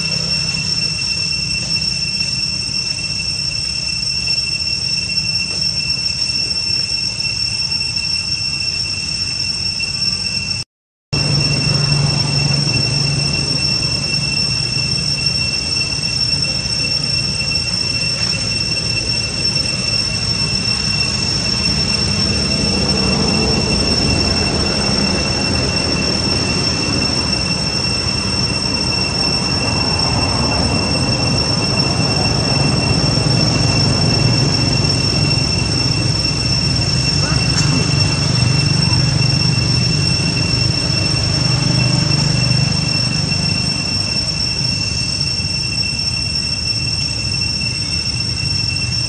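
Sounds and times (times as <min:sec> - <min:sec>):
high-pitched insect drone: 0:00.0 - 0:49.0.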